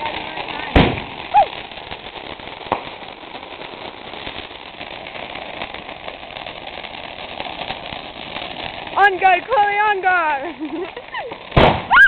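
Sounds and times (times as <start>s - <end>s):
sparklers fizzing and crackling: 0.0s - 12.0s.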